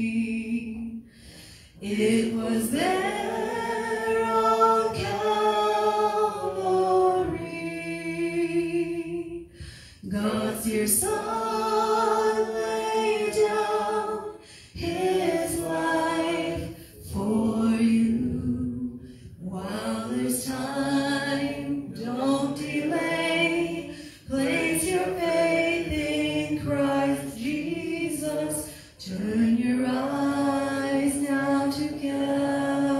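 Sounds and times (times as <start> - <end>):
woman singing gospel: 0.0 - 0.9, 1.8 - 32.9.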